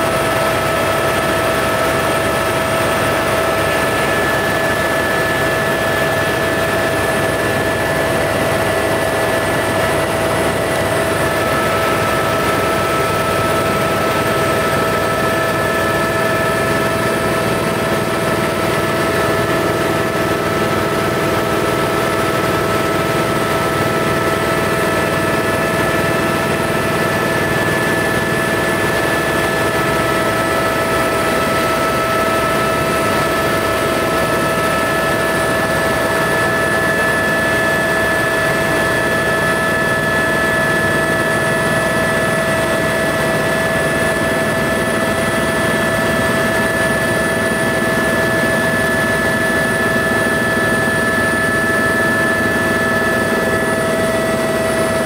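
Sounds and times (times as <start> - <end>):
helicopter cabin noise: 0.0 - 55.0.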